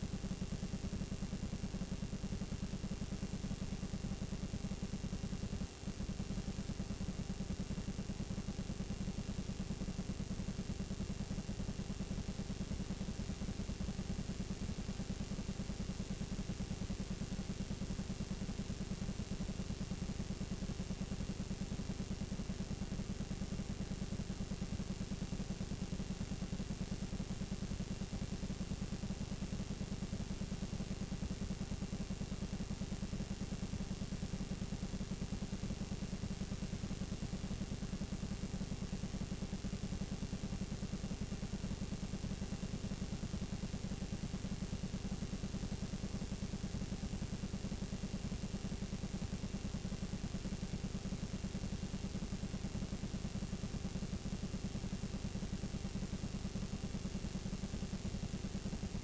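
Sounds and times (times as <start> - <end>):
low electrical buzz: 0.0 - 59.0.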